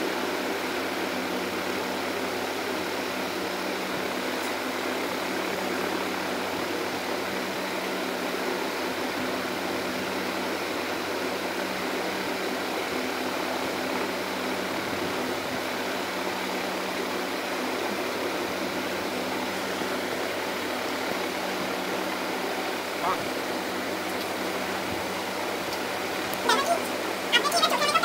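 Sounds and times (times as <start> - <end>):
fan hissing: 0.0 - 28.0
low electrical hum: 0.0 - 28.0.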